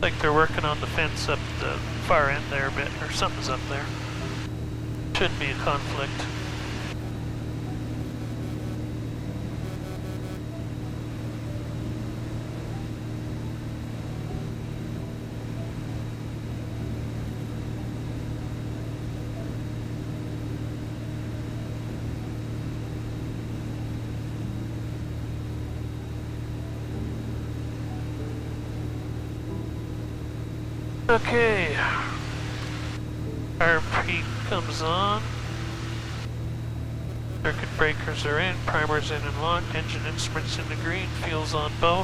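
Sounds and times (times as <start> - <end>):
aircraft engine and propeller droning: 0.0 - 42.0.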